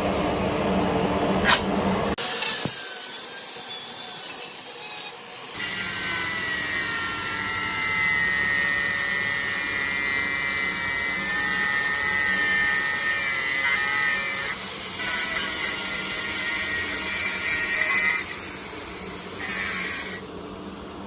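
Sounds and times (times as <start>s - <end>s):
electric power tool whining: 2.2s - 20.3s.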